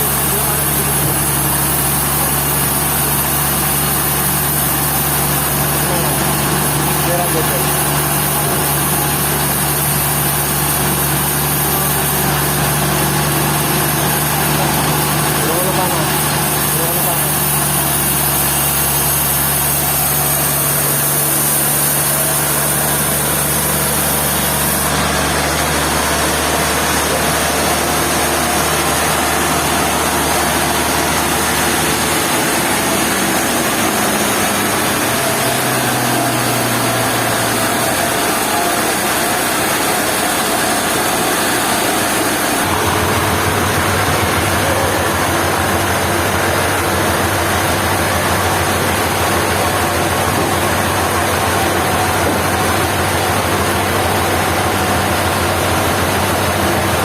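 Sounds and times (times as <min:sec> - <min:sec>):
sawmill machinery engine drone: 0:00.0 - 0:57.0.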